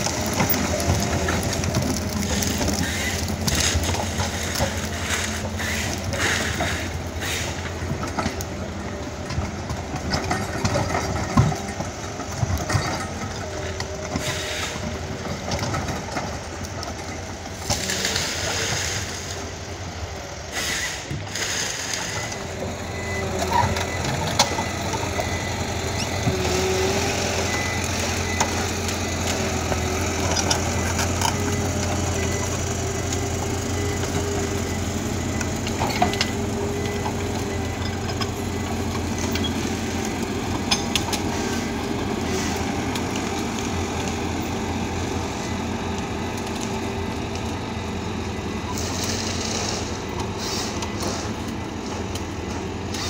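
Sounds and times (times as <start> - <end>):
track chains clanking: 0.0 - 20.5, 21.1 - 53.0
forestry machine engine drone: 0.0 - 53.0.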